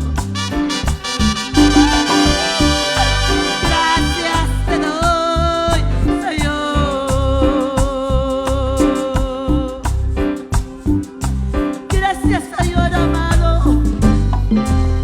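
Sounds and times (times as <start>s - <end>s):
upbeat latin-style music: 0.0s - 15.0s.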